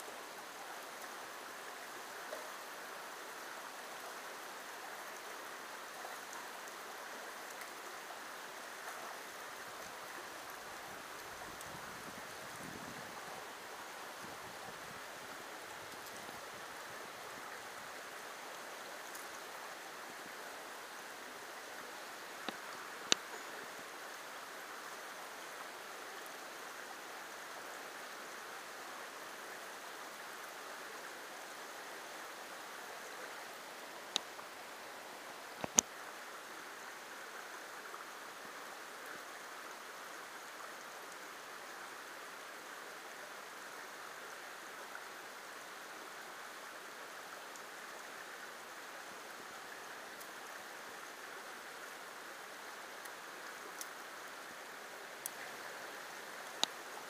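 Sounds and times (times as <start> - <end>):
creek water running over rocks: 0.0 - 57.0.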